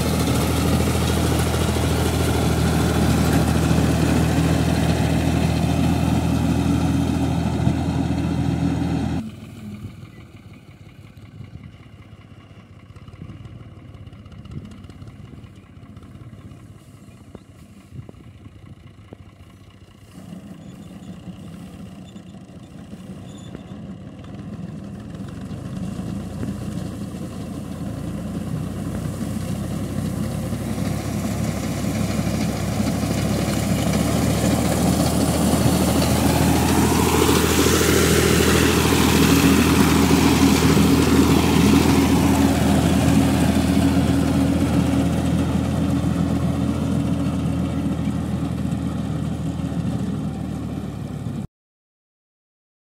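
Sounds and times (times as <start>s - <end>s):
tractor engine running: 0.0s - 51.5s.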